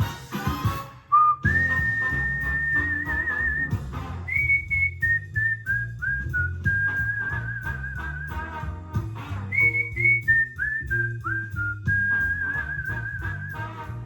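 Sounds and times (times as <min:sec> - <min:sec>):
whistled tune: 0:00.4 - 0:14.0
backing with low beat: 0:01.4 - 0:14.0.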